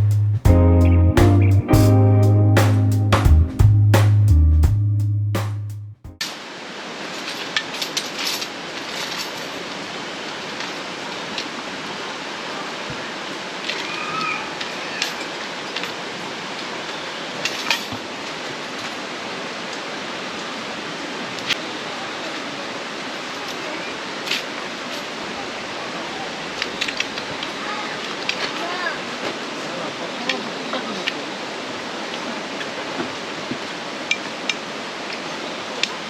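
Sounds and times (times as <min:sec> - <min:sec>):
stream rushing: 0:06.2 - 0:36.0.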